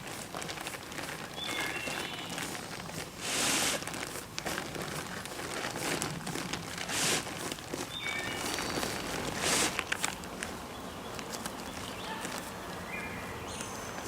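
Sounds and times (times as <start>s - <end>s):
crinkly sheet material rustling: 0.0s - 13.2s.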